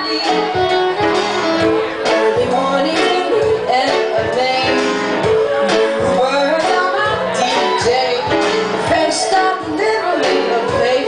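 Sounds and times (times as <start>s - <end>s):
women singing: 0.0s - 0.9s, 2.1s - 11.0s
live band music: 0.0s - 11.0s.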